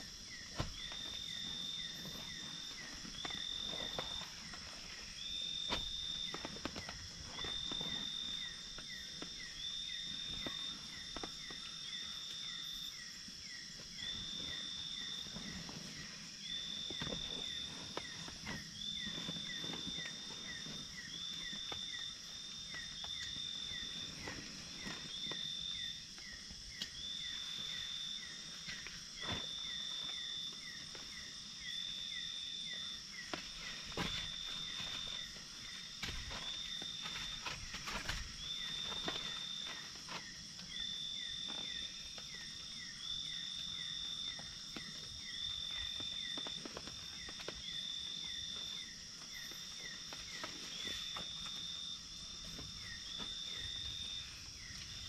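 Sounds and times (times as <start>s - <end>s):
high insect hiss: 0.0s - 55.0s
insect chirps: 0.0s - 55.0s.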